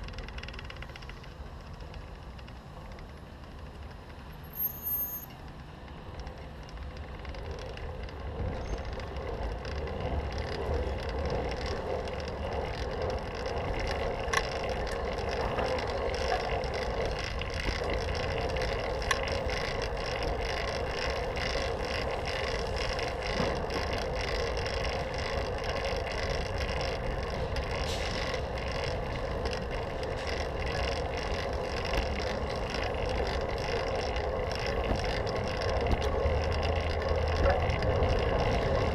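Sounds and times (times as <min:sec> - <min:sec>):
bicycle road noise on pavement: 0:00.0 - 0:38.9.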